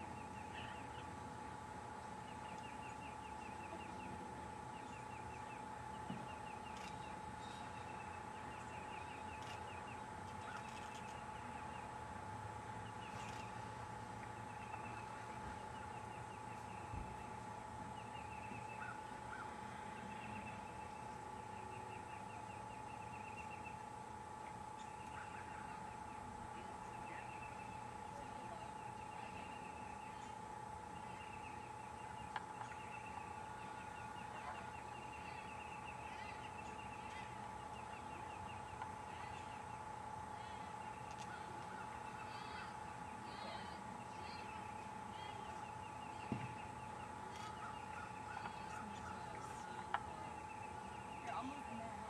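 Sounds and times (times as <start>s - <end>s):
steady faint hum: 0.0s - 52.0s.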